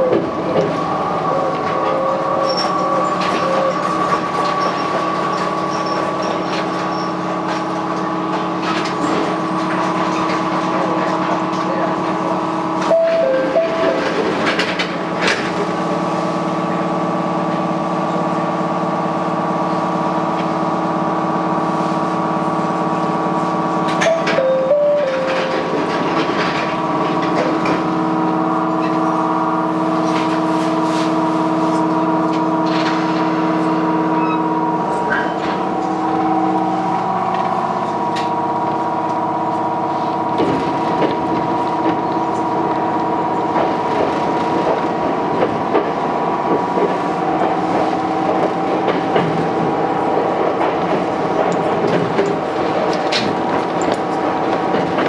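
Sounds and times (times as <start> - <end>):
electric train hum: 0.0 - 55.0.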